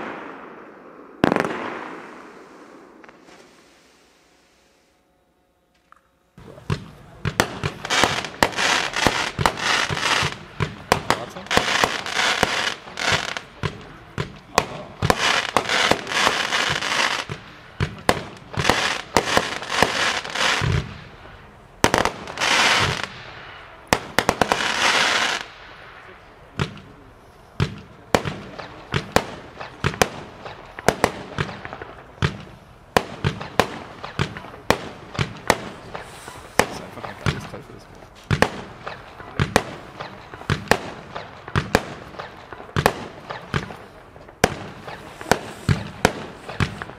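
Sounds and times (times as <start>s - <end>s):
fireworks bangs: 0.0s - 5.0s, 6.4s - 46.9s
fireworks crackling and hissing: 0.0s - 5.2s, 6.3s - 46.9s.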